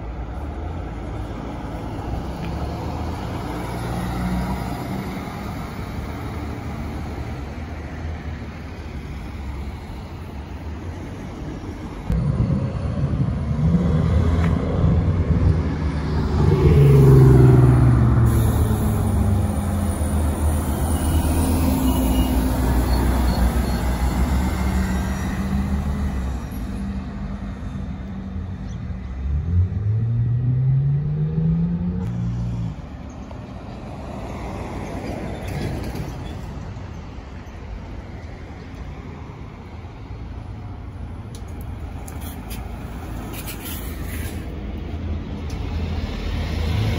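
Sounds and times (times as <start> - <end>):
bus engine accelerating: 0.0 - 38.6
bus engines passing: 0.0 - 46.9
road traffic: 0.0 - 46.9.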